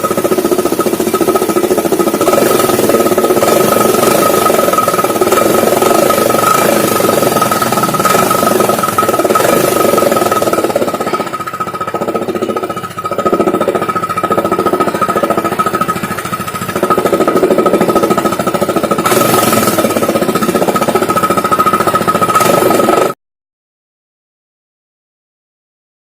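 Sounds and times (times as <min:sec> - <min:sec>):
scooter engine exhaust hammering: 0:00.0 - 0:23.2
steady high whine: 0:00.0 - 0:23.2.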